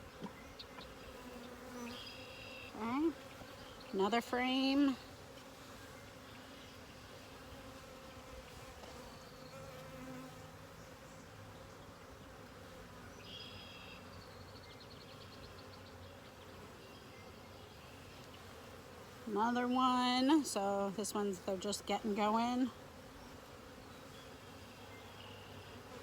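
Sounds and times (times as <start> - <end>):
bees humming: 0.0 - 26.0.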